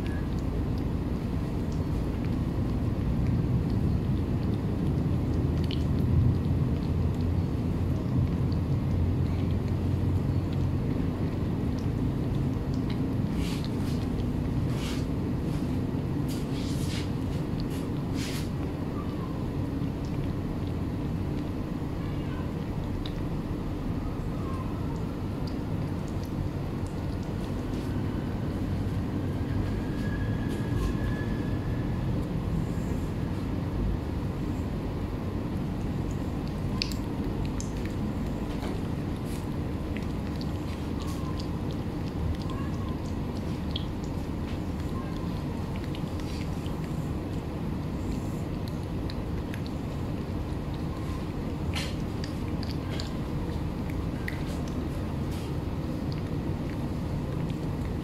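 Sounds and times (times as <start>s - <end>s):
cat chewing and licking: 0.0s - 58.0s
steady low rumble: 0.0s - 58.0s.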